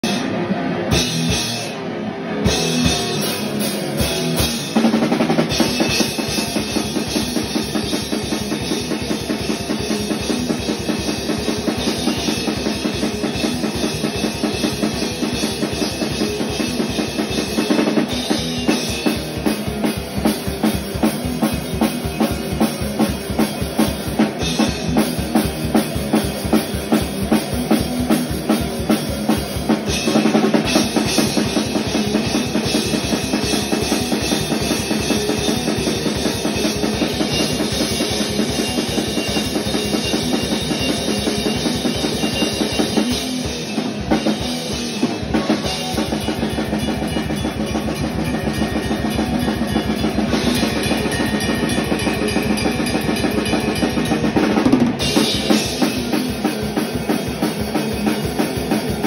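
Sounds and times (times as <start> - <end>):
electric guitar: 0.0 - 59.0.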